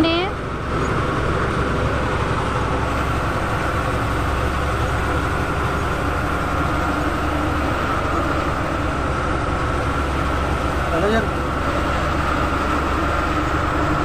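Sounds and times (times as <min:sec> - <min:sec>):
bus engine rumble: 0:00.0 - 0:14.0
road noise: 0:00.0 - 0:14.0.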